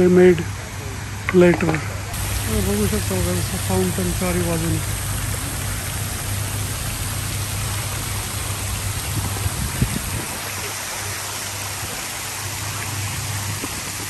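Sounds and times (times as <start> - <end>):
fountain water splashing: 0.0 - 14.0
steady low rumble: 0.0 - 14.0.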